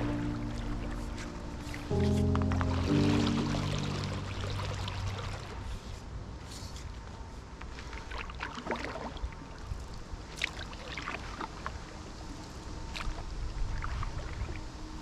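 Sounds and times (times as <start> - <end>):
paddle pulling through water: 0.0 - 15.0
water splashes and drips: 0.0 - 15.0.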